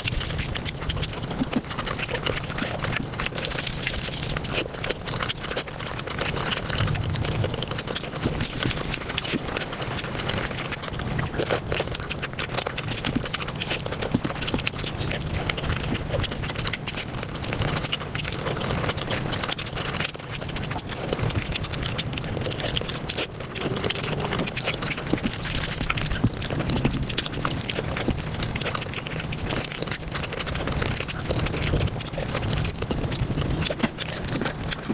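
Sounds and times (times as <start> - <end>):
sped-up chewing clicks and crackles: 0.0 - 34.9.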